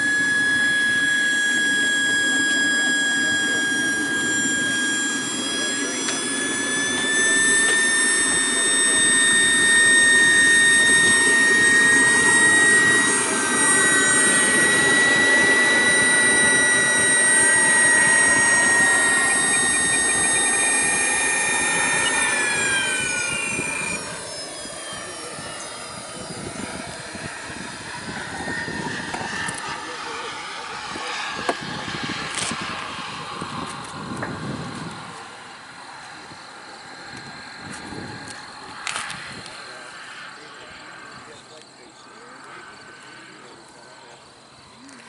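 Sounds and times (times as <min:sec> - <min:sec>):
jet turbine whine: 0:00.0 - 0:45.0
second whine sweeping in pitch: 0:00.0 - 0:45.0.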